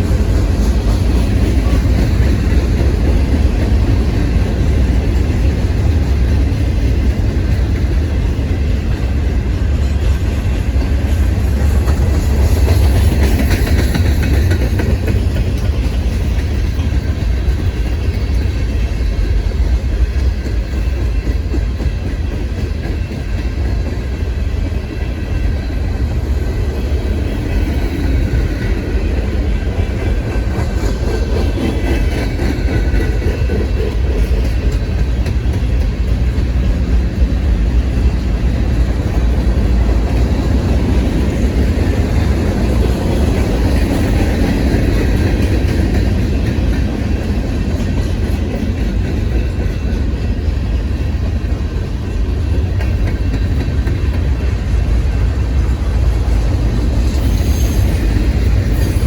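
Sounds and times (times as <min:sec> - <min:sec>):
freight train rolling on rails: 0:00.0 - 0:59.0.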